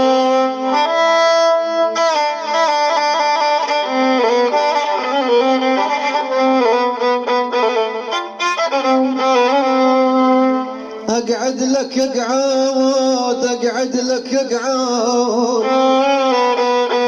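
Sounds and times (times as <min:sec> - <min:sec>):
violin ornamented melody: 0:00.0 - 0:11.8, 0:15.1 - 0:17.0.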